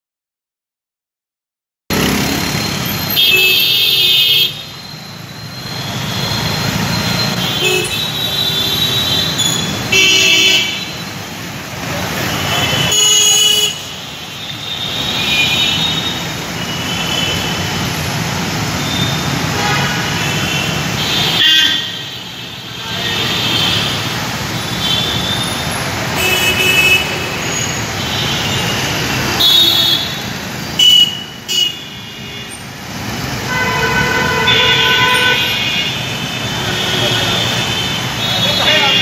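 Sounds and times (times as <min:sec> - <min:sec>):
traffic crawling on wet road: 0:01.9 - 0:03.2, 0:04.6 - 0:22.0, 0:22.7 - 0:39.0
vehicle horns honking: 0:02.9 - 0:04.8, 0:05.8 - 0:11.1, 0:12.1 - 0:17.6, 0:18.8 - 0:32.7, 0:33.4 - 0:39.0.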